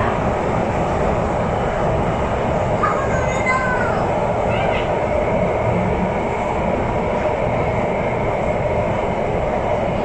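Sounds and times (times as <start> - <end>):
metro train rumbling in tunnel: 0.0 - 10.0.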